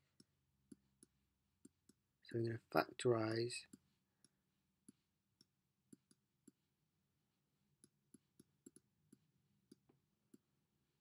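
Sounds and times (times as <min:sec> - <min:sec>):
stylus tapping tablet screen: 0:00.0 - 0:02.2, 0:03.6 - 0:11.0.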